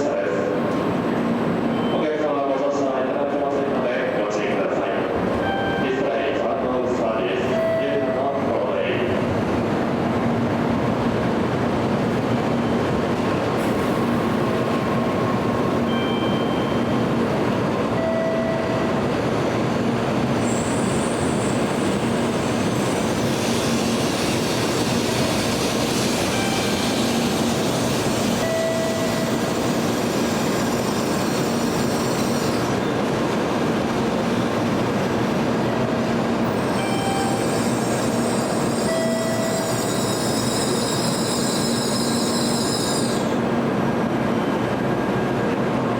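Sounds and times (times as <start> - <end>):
train running noise: 0.0 - 45.9.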